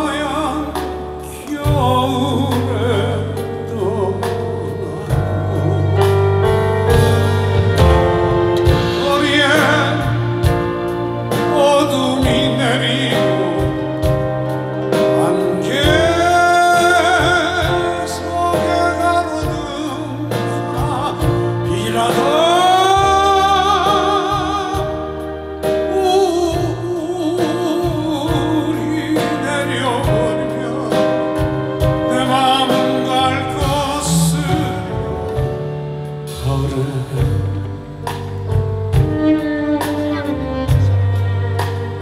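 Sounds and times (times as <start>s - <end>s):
band playing slow ballad: 0.0s - 42.0s.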